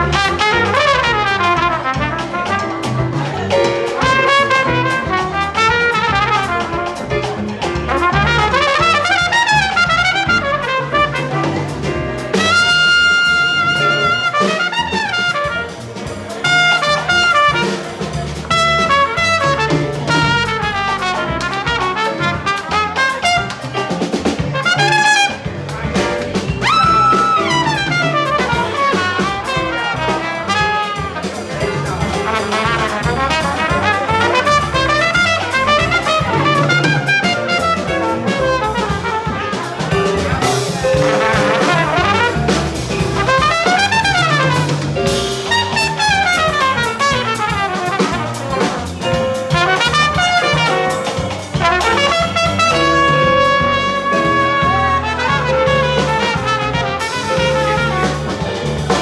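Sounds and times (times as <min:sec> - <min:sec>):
trumpet improvising: 0:00.0 - 0:03.2, 0:03.9 - 0:59.0
double bass: 0:00.0 - 0:59.0
drums: 0:00.0 - 0:59.0.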